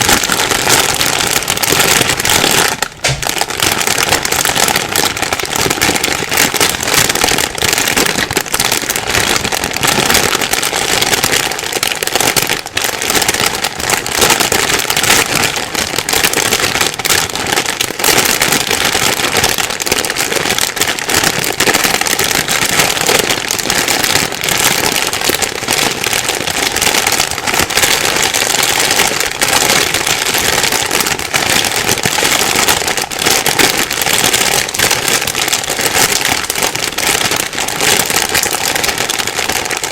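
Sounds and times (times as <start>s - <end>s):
plastic bag crinkling: 0.0s - 39.9s.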